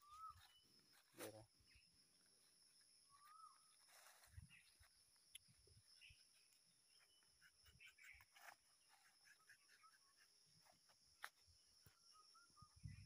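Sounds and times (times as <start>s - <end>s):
faint chirps: 0.0s - 13.0s.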